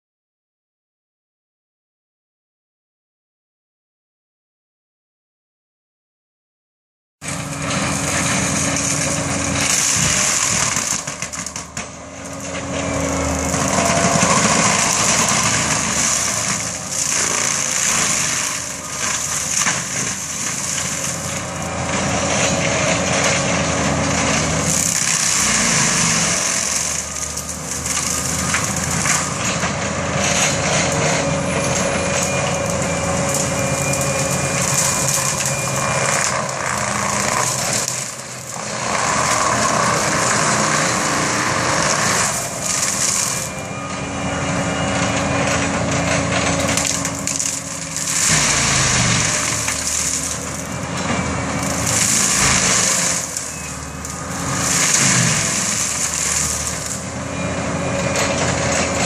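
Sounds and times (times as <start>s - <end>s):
engine drone: 7.2s - 59.0s
mulcher drum grinding brush: 7.3s - 57.3s.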